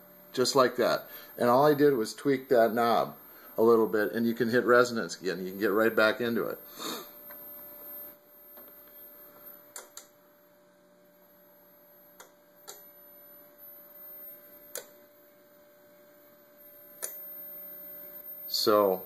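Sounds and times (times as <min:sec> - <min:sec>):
faint electrical hum: 0:00.0 - 0:19.0
thin high whine: 0:00.0 - 0:19.0.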